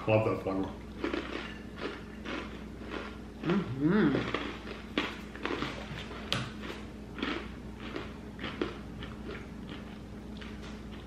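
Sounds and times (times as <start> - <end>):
crunchy food being chewed: 0.8 - 11.0.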